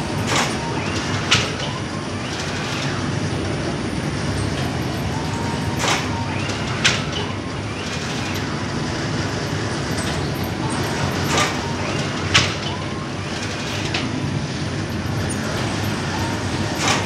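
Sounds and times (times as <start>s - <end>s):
production line machinery rumbling: 0.0s - 17.0s.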